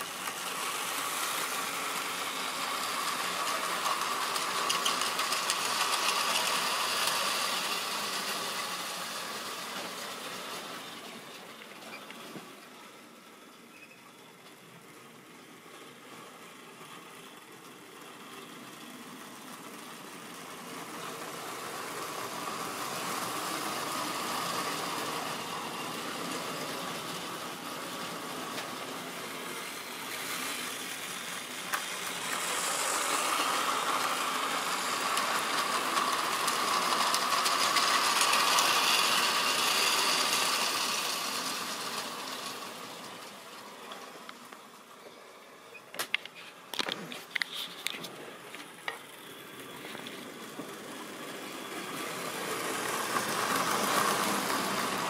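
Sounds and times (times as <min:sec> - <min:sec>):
model train motor whirring: 0:00.0 - 0:12.7, 0:14.3 - 0:55.0
wheels rattling on rails: 0:00.0 - 0:45.0, 0:46.0 - 0:55.0.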